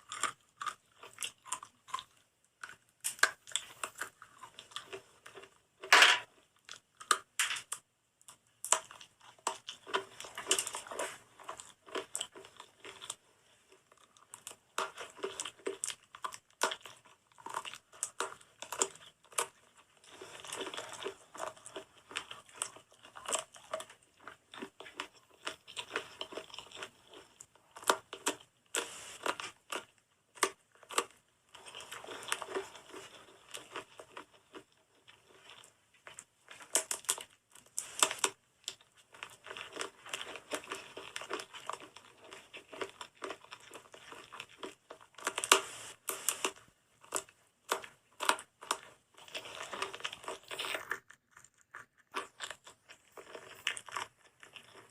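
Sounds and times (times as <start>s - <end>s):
dry soap crunching: 0.0s - 54.9s.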